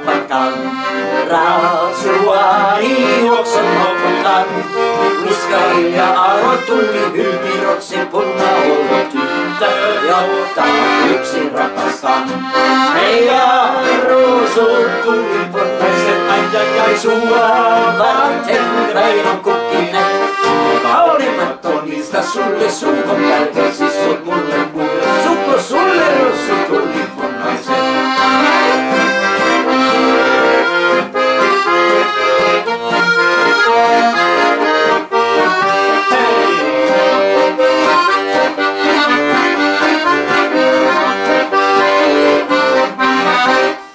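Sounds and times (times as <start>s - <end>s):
man singing: 0.0s - 30.5s, 31.8s - 42.5s
acoustic guitar strumming: 0.0s - 43.9s
piano accordion: 0.0s - 43.9s.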